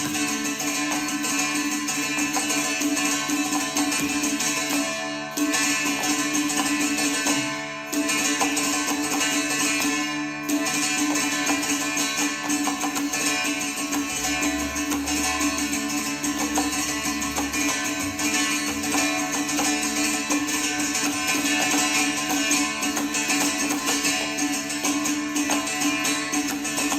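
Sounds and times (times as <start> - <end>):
plucked string instrument: 0.0 - 26.9.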